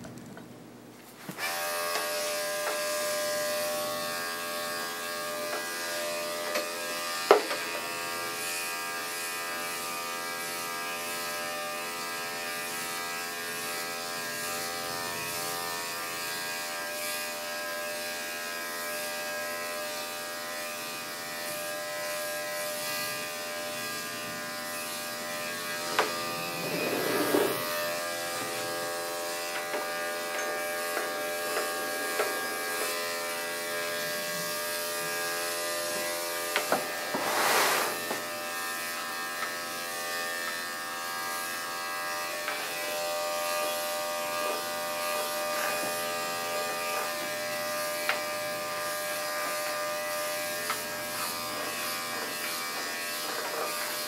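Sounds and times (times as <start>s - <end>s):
electric clippers buzzing: 1.3s - 54.0s.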